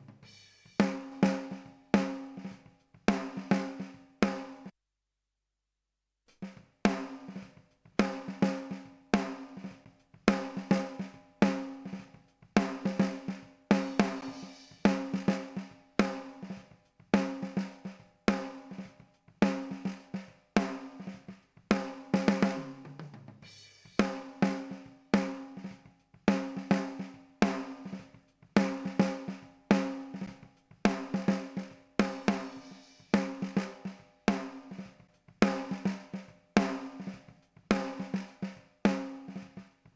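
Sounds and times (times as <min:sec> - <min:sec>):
drum kit beat: 0:00.0 - 0:04.7, 0:06.3 - 0:39.9.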